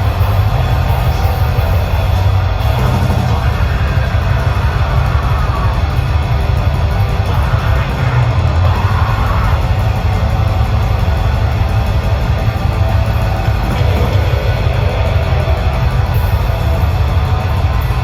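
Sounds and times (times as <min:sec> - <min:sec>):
distorted electric guitars: 0:00.0 - 0:18.0
live band playing loud: 0:00.0 - 0:18.0.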